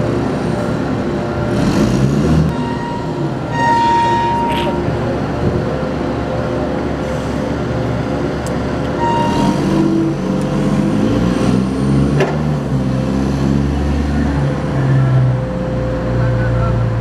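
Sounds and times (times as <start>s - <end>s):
heavy machinery engines running: 0.0s - 17.0s.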